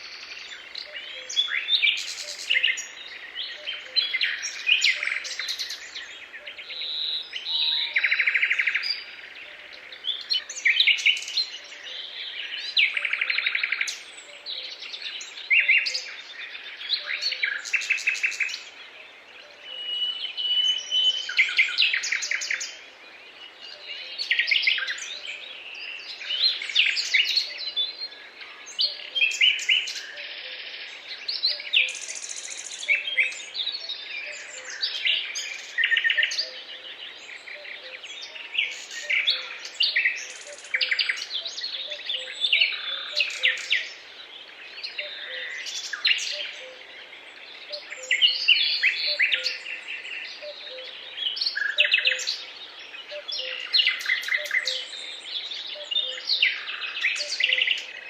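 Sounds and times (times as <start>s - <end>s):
songbirds singing and calling: 0.0s - 58.0s.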